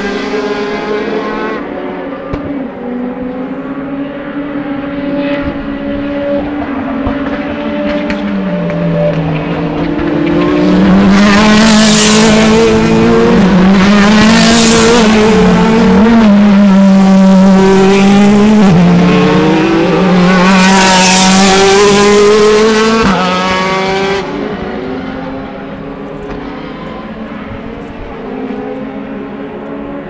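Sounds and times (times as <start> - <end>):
race car engines passing at speed: 0.0 - 30.0.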